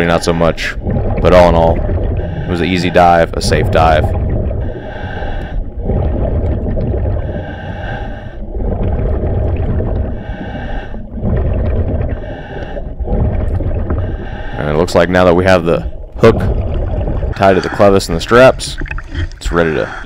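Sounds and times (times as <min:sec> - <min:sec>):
rumble of exhaled bubbles: 0:00.0 - 0:20.0.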